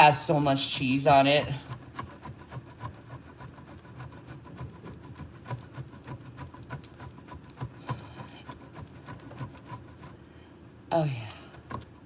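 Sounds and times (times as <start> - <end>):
cheese scraping on grater: 0.6 - 10.3.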